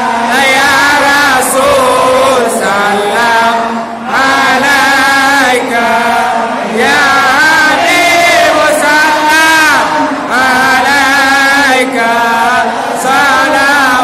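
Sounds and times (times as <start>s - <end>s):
men chanting together: 0.0s - 14.0s.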